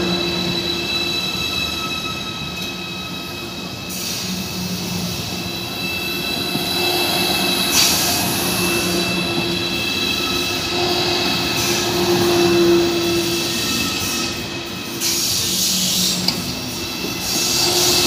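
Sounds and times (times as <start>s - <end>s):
electric train whine: 0.0s - 18.0s.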